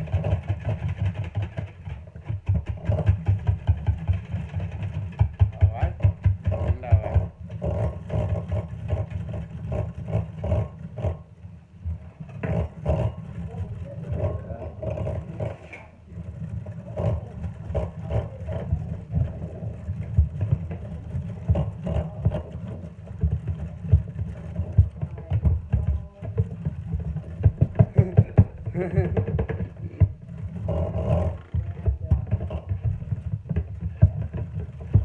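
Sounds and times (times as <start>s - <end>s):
whisk clicking and scraping bowl: 0.0s - 35.0s.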